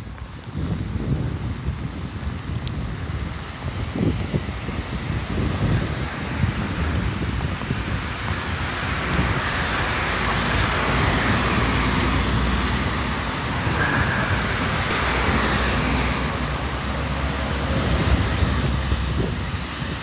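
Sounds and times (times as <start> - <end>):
traffic on wet street: 0.0 - 20.0
wind buffeting microphone: 0.0 - 20.0.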